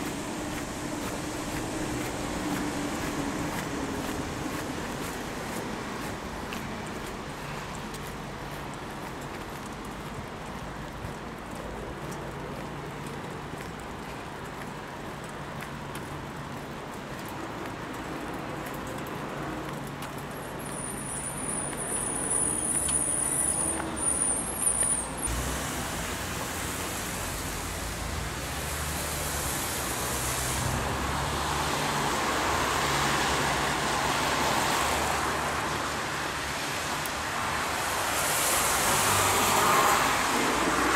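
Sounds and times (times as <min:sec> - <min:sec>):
traffic on wet street: 0:00.0 - 0:40.9.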